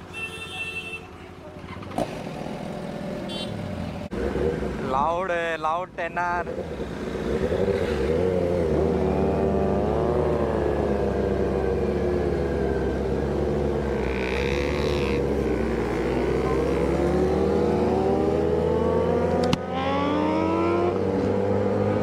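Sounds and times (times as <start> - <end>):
motorcycle engine revving: 1.7 - 5.1, 6.4 - 22.0.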